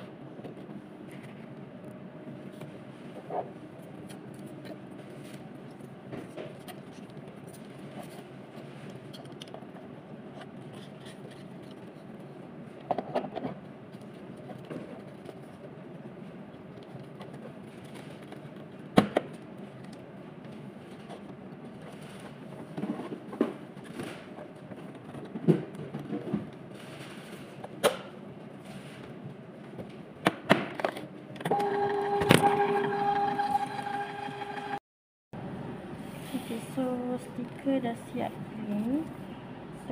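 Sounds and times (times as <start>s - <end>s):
room hum: 0.0s - 34.8s, 35.4s - 39.9s.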